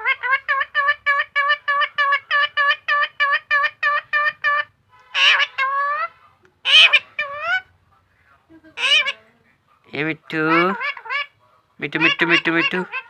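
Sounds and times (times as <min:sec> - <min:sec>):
parrot calling: 0:00.0 - 0:07.7, 0:08.7 - 0:09.2, 0:10.1 - 0:13.0
parrot squawks: 0:00.0 - 0:07.7, 0:08.8 - 0:09.2, 0:10.3 - 0:13.0.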